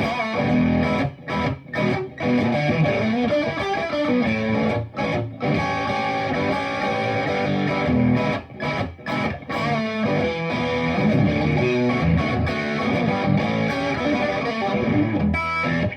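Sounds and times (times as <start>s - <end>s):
electric guitar riffing: 0.0s - 15.9s.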